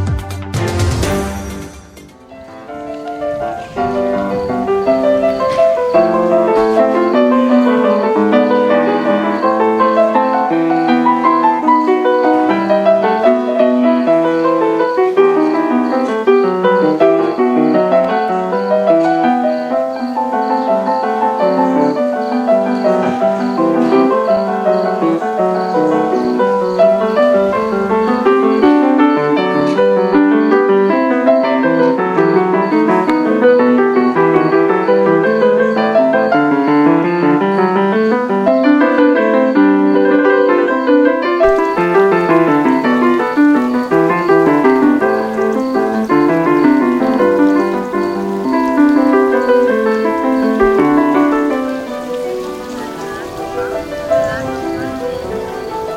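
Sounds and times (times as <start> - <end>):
grand piano melody: 0.0 - 55.9.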